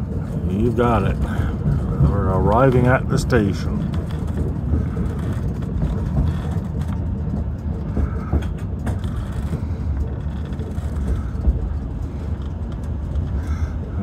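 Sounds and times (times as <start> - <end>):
railcar rumble: 0.0 - 14.0.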